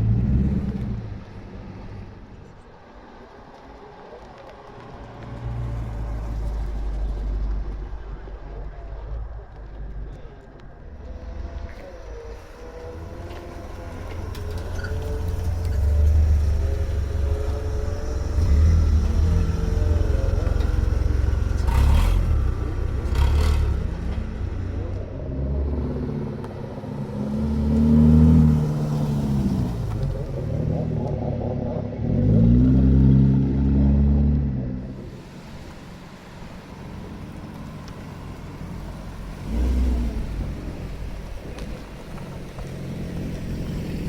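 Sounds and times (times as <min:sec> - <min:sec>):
car engines rumbling passing: 0:00.0 - 0:44.0.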